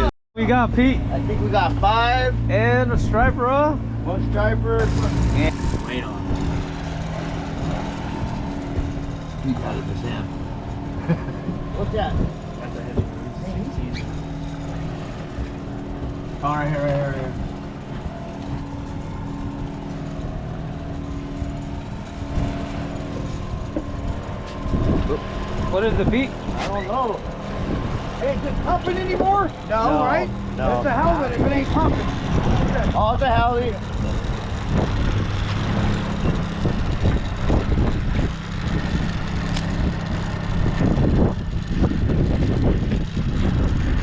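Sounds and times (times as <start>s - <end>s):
low motor hum: 0.0s - 44.0s
wind buffeting microphone: 0.8s - 44.0s.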